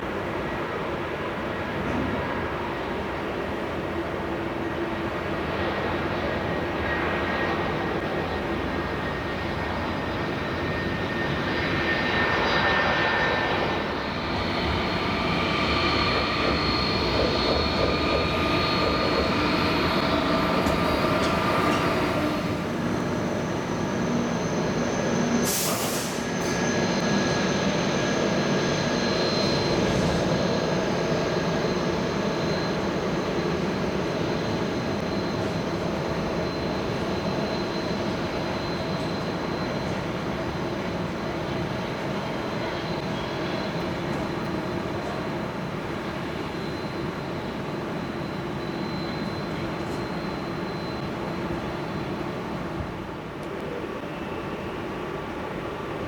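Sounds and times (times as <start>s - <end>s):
jet engines running with whine: 0.0s - 56.0s.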